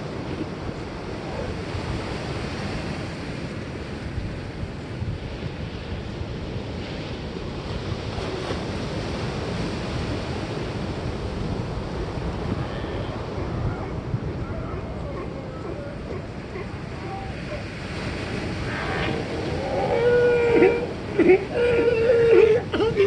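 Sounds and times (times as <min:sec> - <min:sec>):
ocean surf washing: 0:00.0 - 0:23.0
wind rumbling on microphone: 0:00.0 - 0:23.0.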